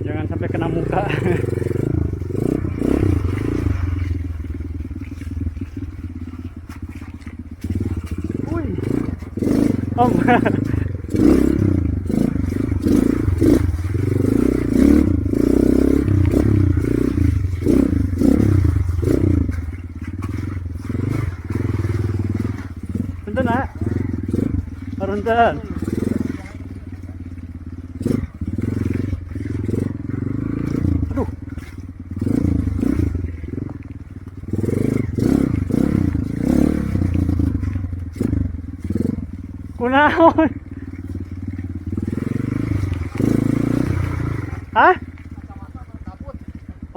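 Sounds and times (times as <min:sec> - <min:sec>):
motorcycle clattering over rough ground: 0:00.0 - 0:46.9
motorcycle engine revving: 0:00.0 - 0:46.9.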